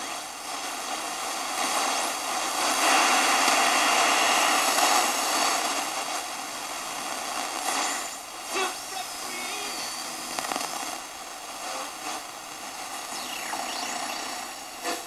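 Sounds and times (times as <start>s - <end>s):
radio crackle: 0.0s - 15.0s
radio static hiss: 0.0s - 15.0s.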